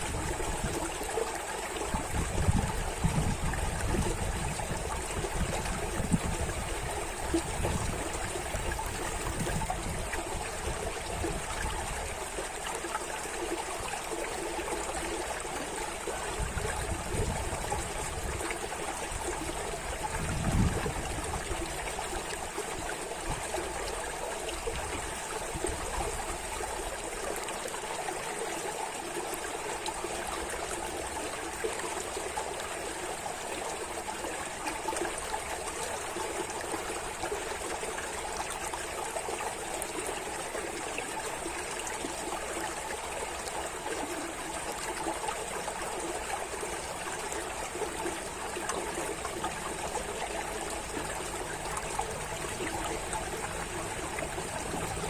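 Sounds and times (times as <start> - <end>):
stream trickling and burbling: 0.0 - 55.0.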